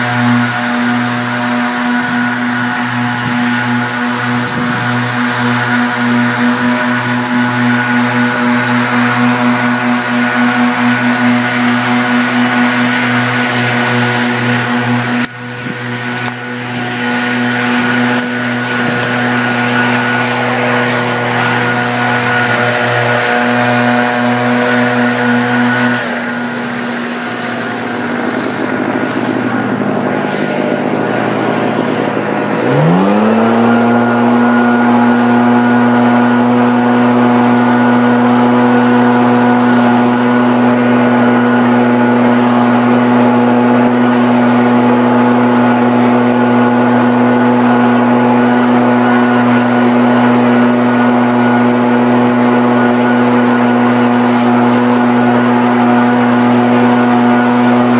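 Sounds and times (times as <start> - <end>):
leaf blower revving: 0.0 - 57.9.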